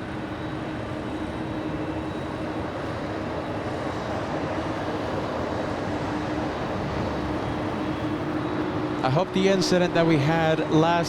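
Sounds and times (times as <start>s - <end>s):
jet engines rumbling at takeoff: 0.0s - 11.0s.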